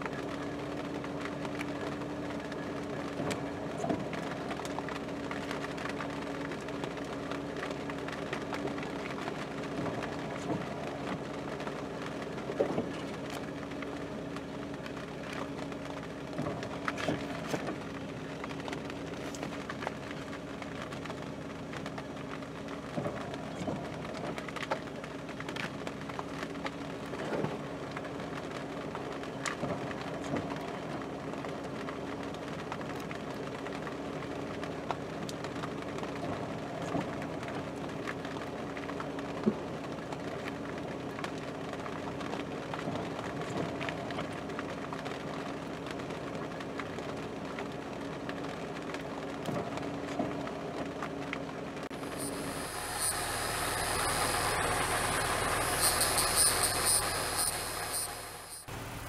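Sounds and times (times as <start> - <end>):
vehicle engine hum: 0.0 - 59.0.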